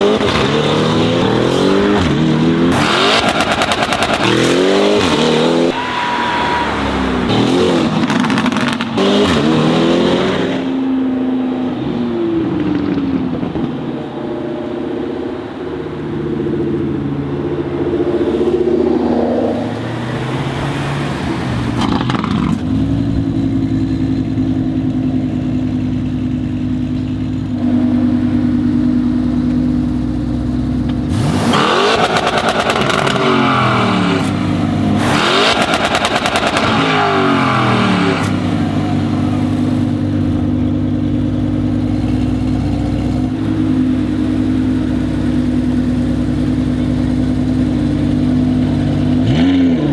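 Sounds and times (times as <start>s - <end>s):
exhaust crack: 0.0s - 10.8s, 11.6s - 14.3s, 16.0s - 49.9s
car engine revving: 0.0s - 49.9s.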